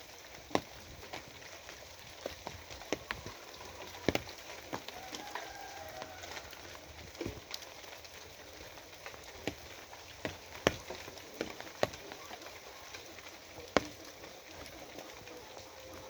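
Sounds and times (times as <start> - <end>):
heavy raindrops tapping: 0.0 - 16.0
steady rain falling: 0.0 - 16.0.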